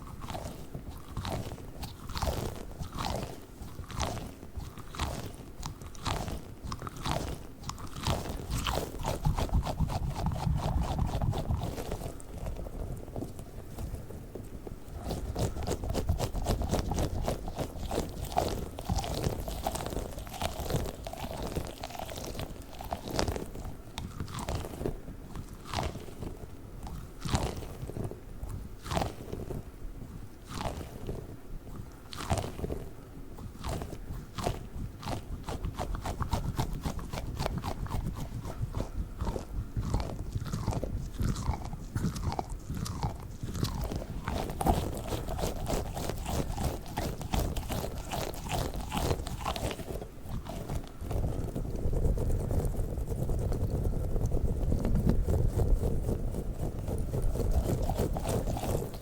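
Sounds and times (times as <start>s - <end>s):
squishy balls squelching: 0.0s - 29.6s, 30.2s - 59.0s.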